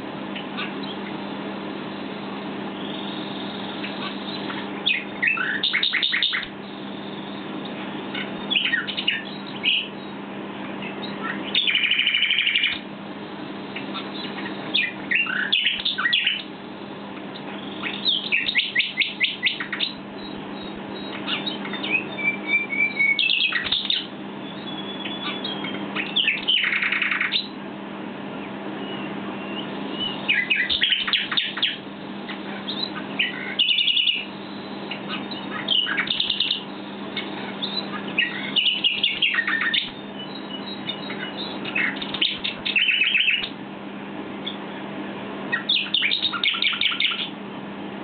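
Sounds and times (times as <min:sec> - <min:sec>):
nightingale singing: 0:00.3 - 0:27.6, 0:28.4 - 0:43.6, 0:45.5 - 0:47.4.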